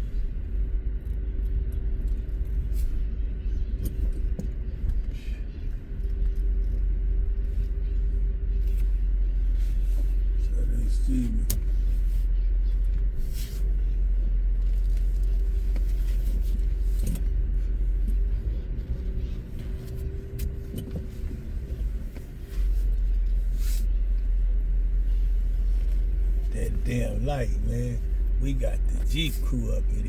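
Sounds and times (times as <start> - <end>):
car engine rumble: 0.0 - 30.0.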